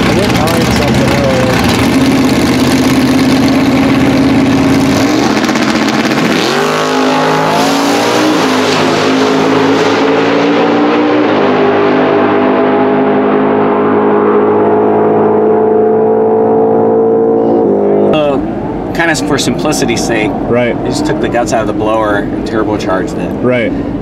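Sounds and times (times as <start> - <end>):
drag racing car engines: 0.0 - 24.0.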